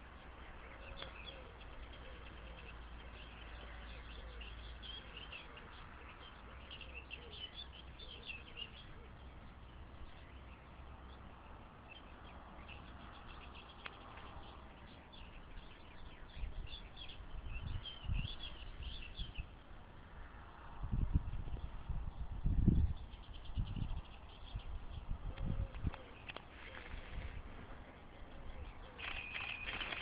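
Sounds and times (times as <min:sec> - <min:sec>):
small birds chirping and singing: 0:00.0 - 0:20.1, 0:20.9 - 0:30.0.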